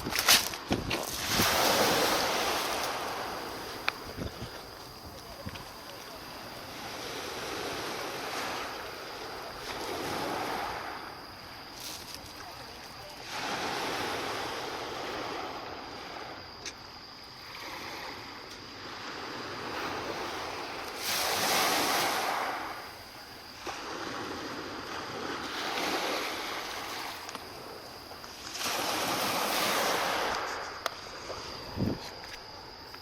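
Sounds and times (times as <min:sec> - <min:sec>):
sea waves washing in: 0:00.0 - 0:16.5, 0:17.4 - 0:31.9.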